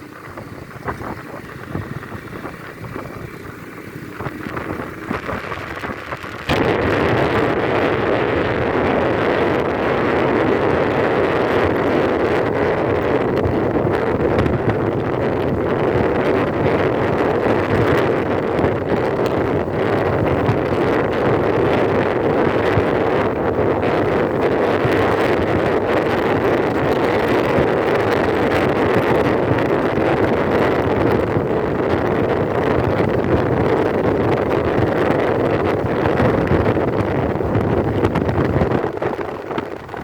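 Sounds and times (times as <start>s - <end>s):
wind rushing: 0.0s - 40.0s.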